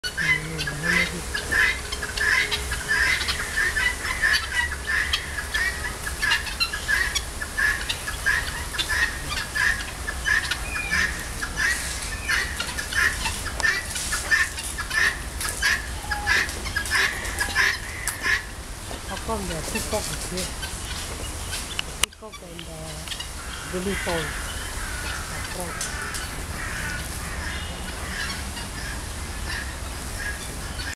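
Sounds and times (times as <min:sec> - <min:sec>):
guineafowl calling: 0:00.0 - 0:30.9
low steady rumble: 0:00.0 - 0:30.9.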